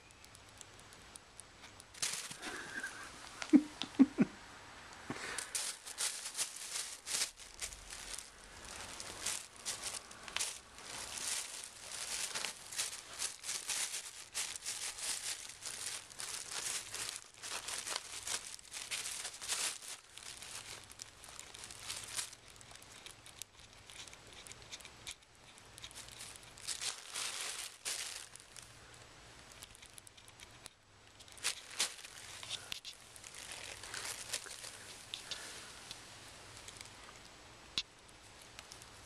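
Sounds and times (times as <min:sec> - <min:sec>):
plastic bags crinkling: 0:01.7 - 0:04.1, 0:05.2 - 0:28.8, 0:29.4 - 0:30.5, 0:31.1 - 0:36.9.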